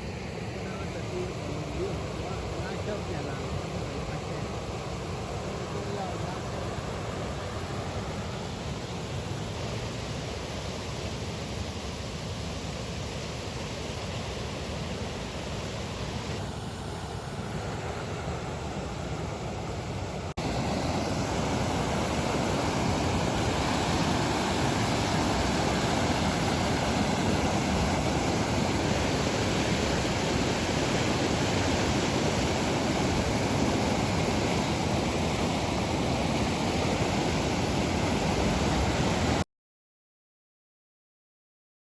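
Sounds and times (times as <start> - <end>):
floodwater rushing down stream: 0.0 - 39.4.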